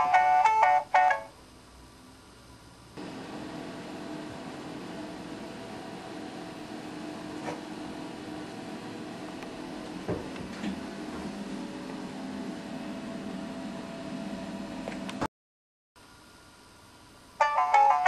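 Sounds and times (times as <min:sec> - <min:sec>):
electrical hum: 0:00.0 - 0:15.3.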